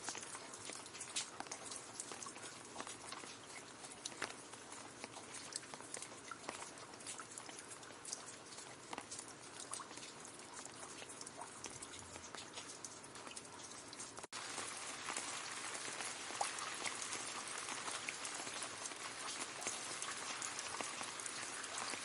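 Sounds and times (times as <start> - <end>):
rain falling on leaves: 0.0 - 22.0
raindrop taps: 0.0 - 22.0.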